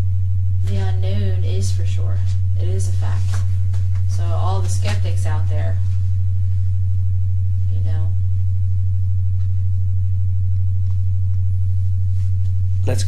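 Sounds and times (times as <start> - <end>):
deep steady hum: 0.0 - 13.0.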